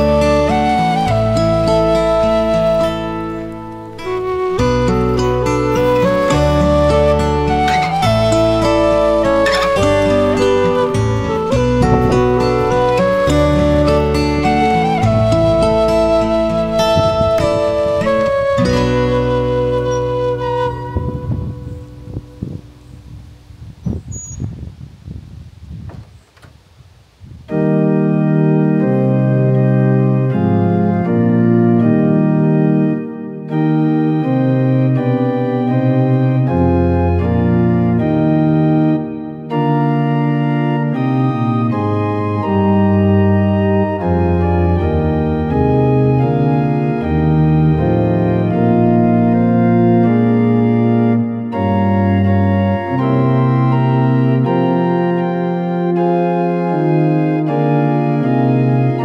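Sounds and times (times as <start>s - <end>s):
organ chords: 0.0s - 24.7s, 26.1s - 59.0s.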